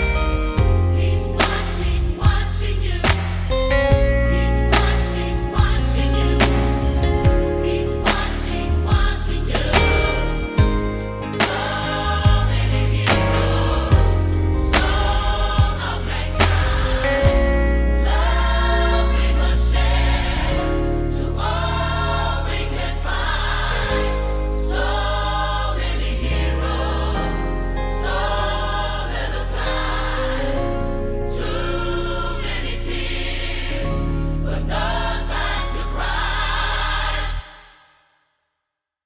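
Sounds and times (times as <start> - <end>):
bass-heavy accompaniment: 0.0 - 37.4
choir singing gospel: 0.0 - 38.0.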